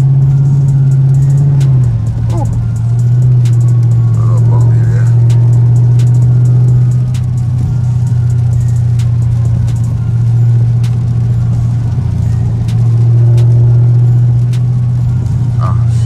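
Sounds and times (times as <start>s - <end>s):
car engine drone in cabin: 0.0s - 16.0s.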